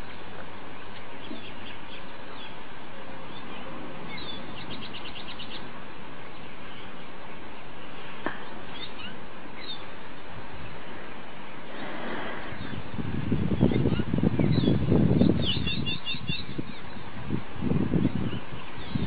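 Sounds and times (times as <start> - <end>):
birds chirping: 0.0 - 17.2, 17.8 - 19.0
steady background hiss: 0.0 - 19.0.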